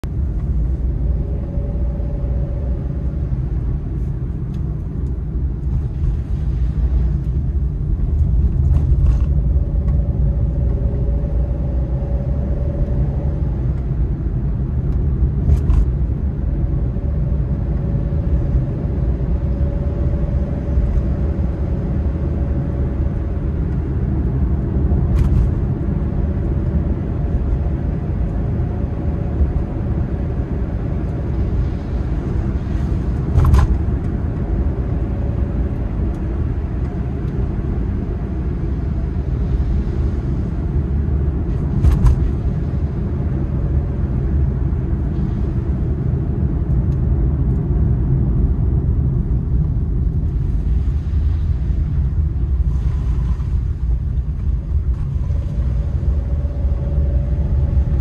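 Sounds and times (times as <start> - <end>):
car road rumble: 0.0 - 58.0
faint hum: 0.0 - 58.0.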